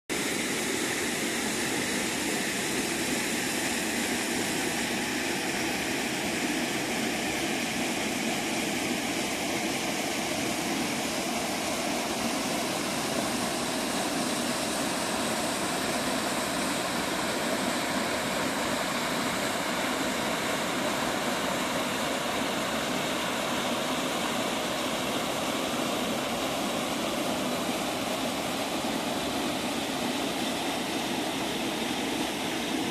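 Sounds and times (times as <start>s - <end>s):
waterfall roar: 0.1s - 32.9s.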